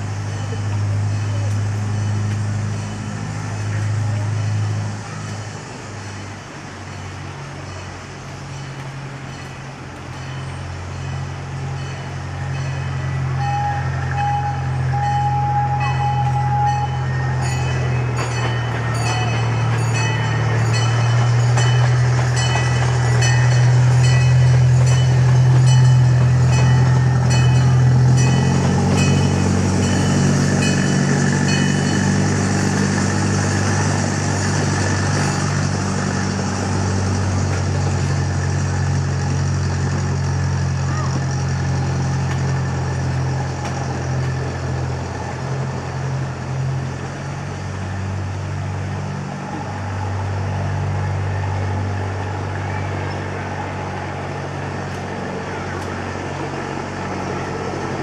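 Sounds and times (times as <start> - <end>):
large engine running: 0.0 - 8.9, 14.2 - 58.0.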